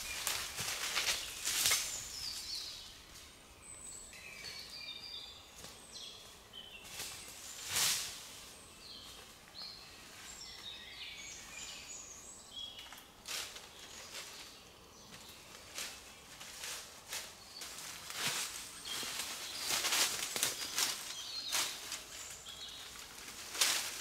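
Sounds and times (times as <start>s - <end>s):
small birds singing: 0.0s - 24.0s.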